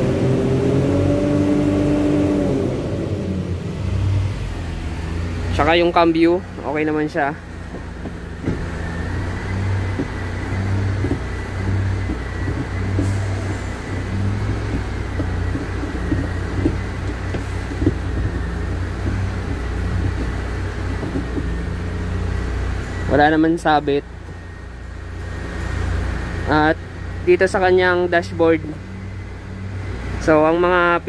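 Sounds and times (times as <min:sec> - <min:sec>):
diesel truck engine idling: 0:01.6 - 0:31.0.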